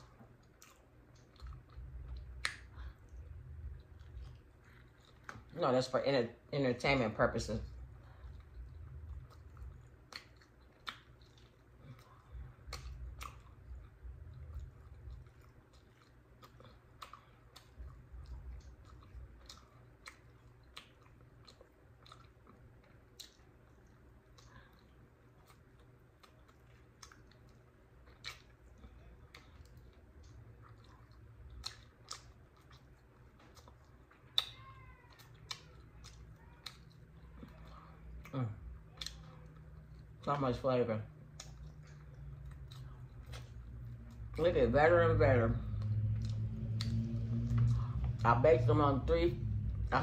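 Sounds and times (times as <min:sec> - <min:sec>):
wet lip smacks and mouth clicks: 0:00.0 - 0:05.5, 0:08.0 - 0:40.3, 0:41.1 - 0:44.4, 0:45.6 - 0:48.2
person chewing meat: 0:00.0 - 0:05.7, 0:07.6 - 0:40.4, 0:41.0 - 0:48.4.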